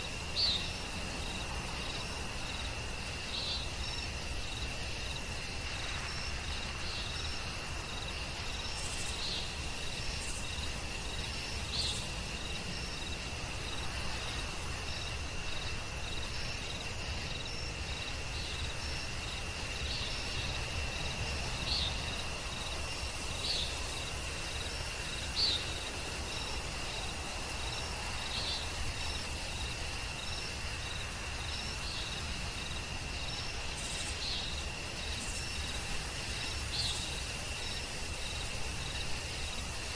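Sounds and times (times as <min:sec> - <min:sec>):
high insect trill: 0:00.0 - 0:39.9
low background hiss: 0:00.0 - 0:39.9.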